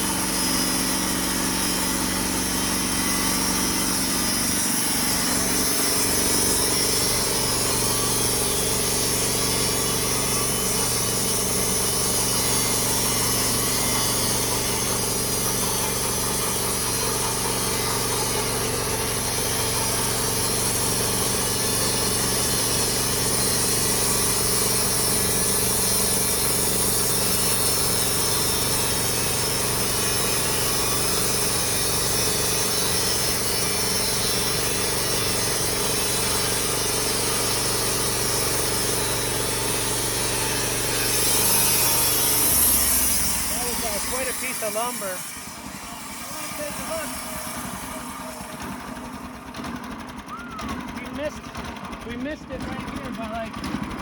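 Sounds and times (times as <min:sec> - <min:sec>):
sawmill cutting log: 0:00.0 - 0:54.0.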